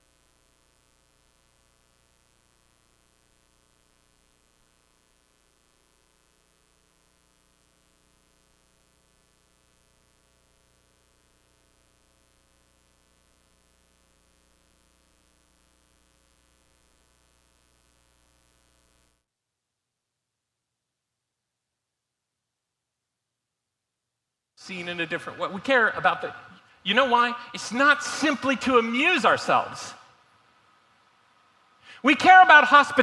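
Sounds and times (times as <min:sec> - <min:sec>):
faint electrical mains hum: 0:00.0 - 0:33.0.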